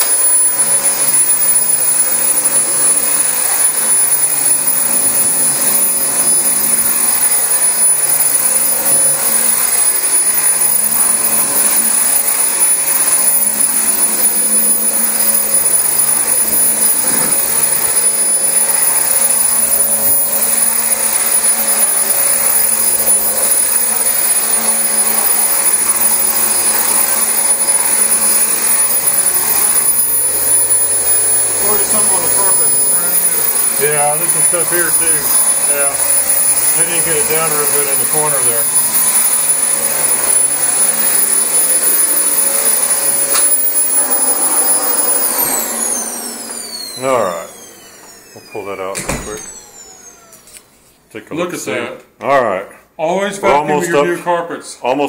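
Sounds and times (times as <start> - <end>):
vacuum cleaner whine: 0.0 - 51.0.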